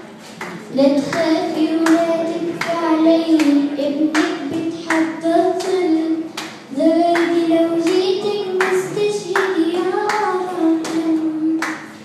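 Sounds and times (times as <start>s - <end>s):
hand claps: 0.4s - 12.0s
girl singing: 0.7s - 11.9s.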